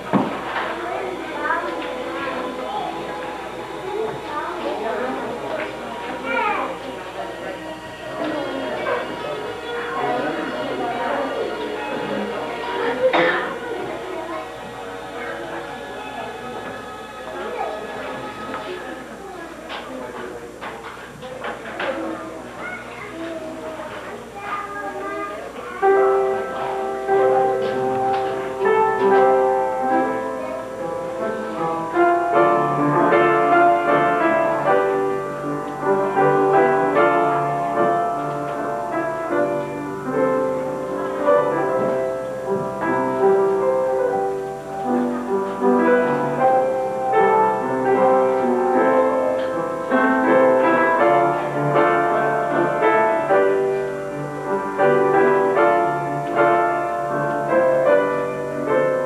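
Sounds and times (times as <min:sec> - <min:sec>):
slow classical piano piece: 0:00.0 - 0:59.0.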